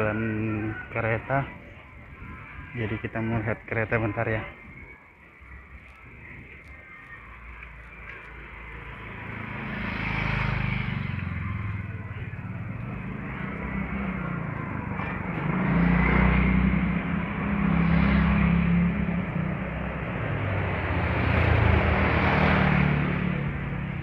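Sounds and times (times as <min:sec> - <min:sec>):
motor scooters passing: 0:00.0 - 0:24.0.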